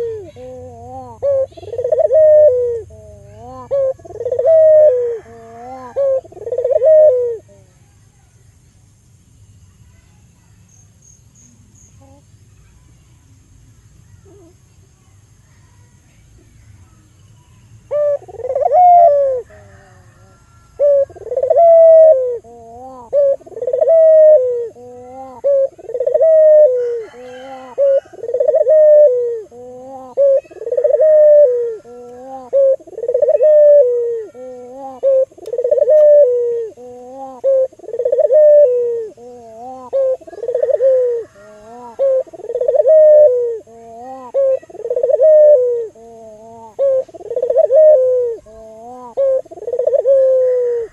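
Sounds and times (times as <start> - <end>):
dove cooing: 0.0 - 7.8, 17.9 - 50.9.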